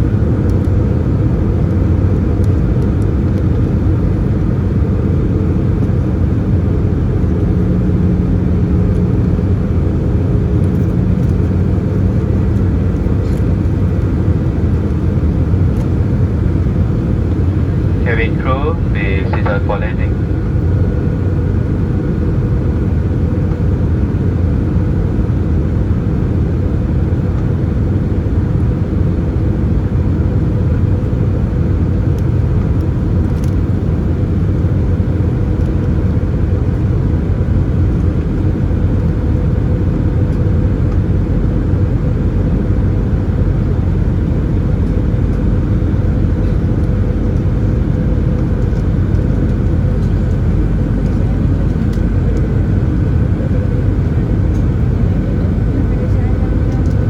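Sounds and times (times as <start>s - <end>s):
airplane cabin drone: 0.0s - 57.0s
faint steady hum: 0.0s - 57.0s.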